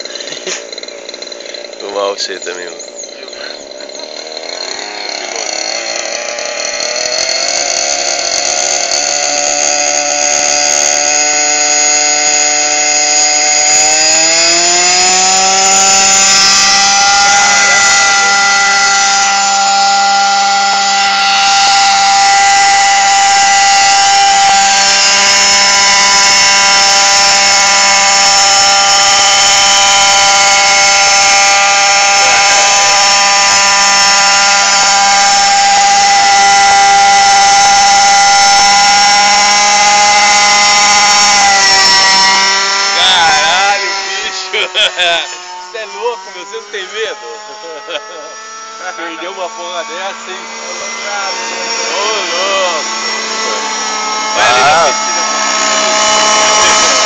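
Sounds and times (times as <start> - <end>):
model helicopter engine whining: 0.0 - 57.0.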